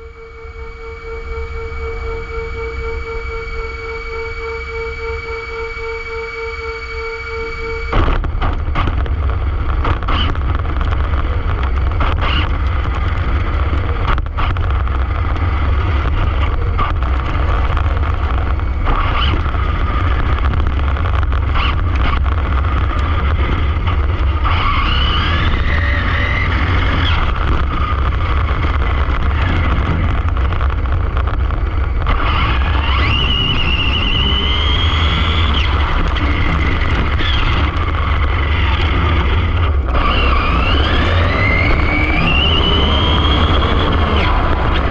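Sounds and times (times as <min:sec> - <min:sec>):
high motor whine: 0:00.0 - 0:44.9
wind and tyre rumble: 0:00.0 - 0:44.9.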